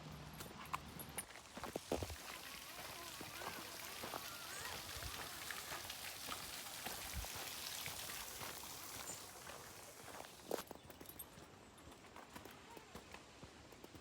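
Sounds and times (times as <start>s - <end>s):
footsteps crunching on a path: 0.3s - 14.0s.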